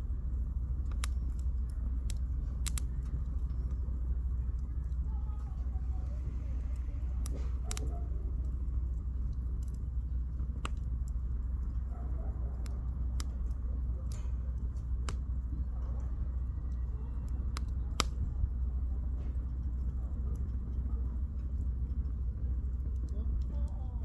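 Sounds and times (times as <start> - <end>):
campfire crackling and popping: 0.0 - 24.0
steady low rumble: 0.0 - 24.0.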